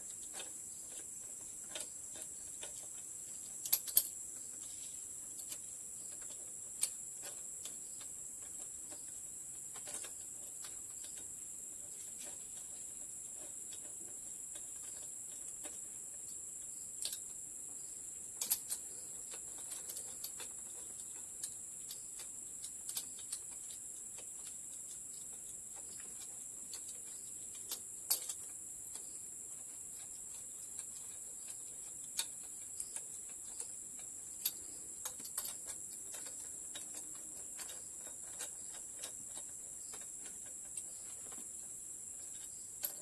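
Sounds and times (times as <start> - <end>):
steady high-pitched hiss: 0.0 - 43.0.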